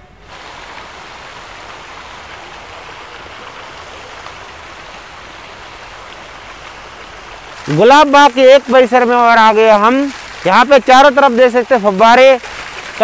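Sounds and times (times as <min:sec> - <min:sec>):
fountain jets splashing: 0:00.0 - 0:13.0.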